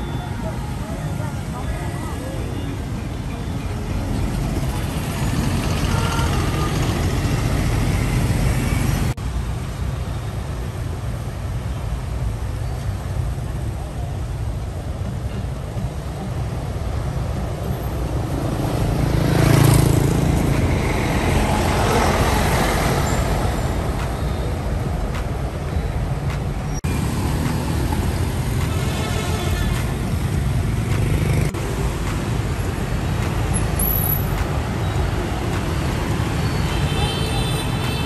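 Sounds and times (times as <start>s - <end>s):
bus driving past: 0.0s - 9.2s, 15.0s - 38.0s
passing cars and motorbikes: 0.0s - 38.0s.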